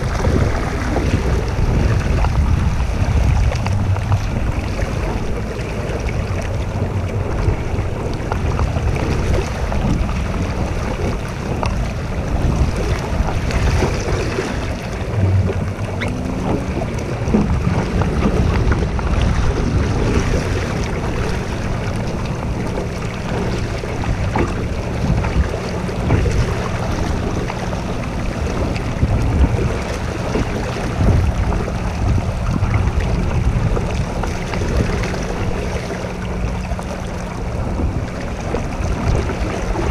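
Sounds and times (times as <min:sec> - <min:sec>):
water splashing along boat hull: 0:00.0 - 0:39.9
wind rumbling on microphone: 0:00.0 - 0:39.9.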